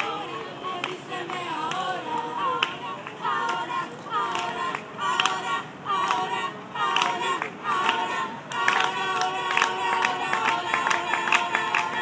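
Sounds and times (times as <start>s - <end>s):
group praying aloud: 0.0s - 12.0s.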